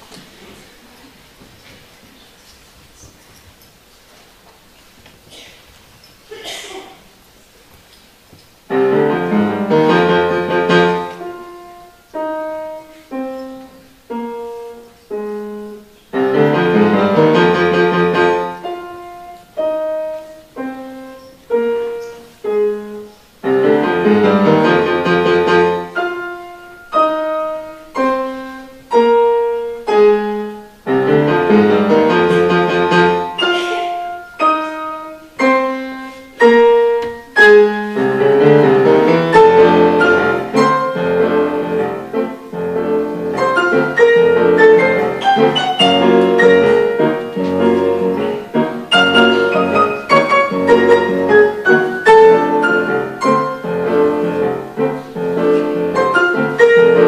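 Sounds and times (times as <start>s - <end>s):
solo piano: 8.6s - 57.0s.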